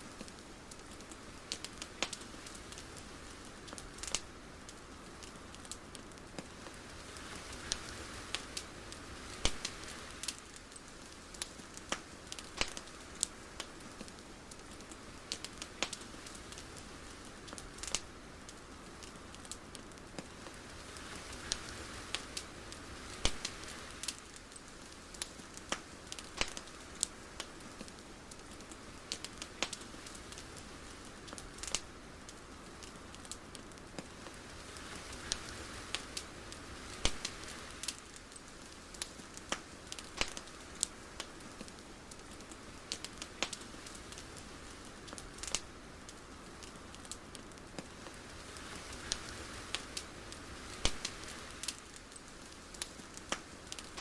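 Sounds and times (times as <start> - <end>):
sharp crackles and clicks: 0.0 - 54.0
soft steady hiss: 0.0 - 54.0.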